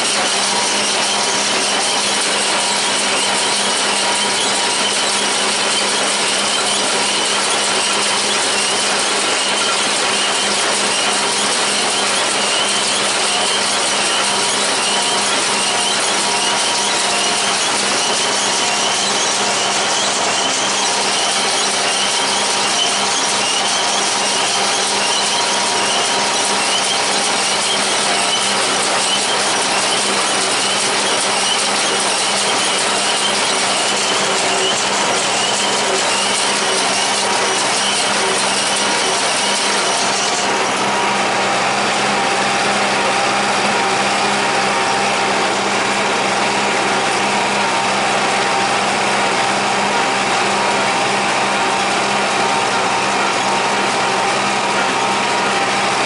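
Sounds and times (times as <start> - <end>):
hay baler running: 0.0 - 56.0
tractor engine: 0.0 - 56.0.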